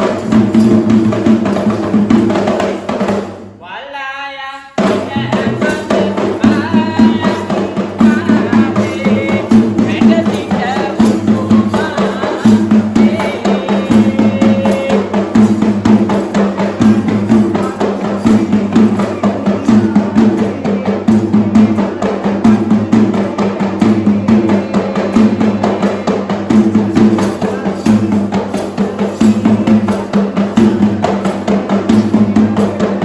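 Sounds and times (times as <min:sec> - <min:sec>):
drums in fast rhythm: 0:00.0 - 0:03.6, 0:04.7 - 0:33.0.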